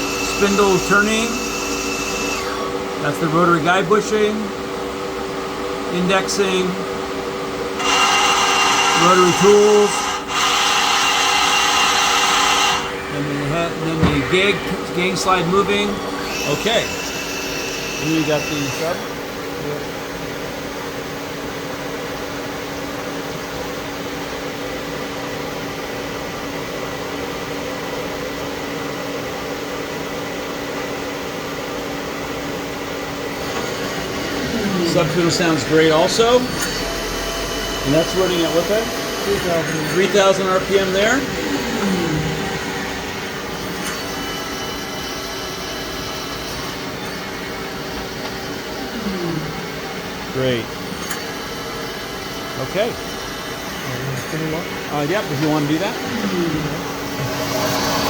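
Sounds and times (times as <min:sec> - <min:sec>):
lathe spindle humming: 0:00.0 - 0:25.0, 0:31.6 - 0:58.0.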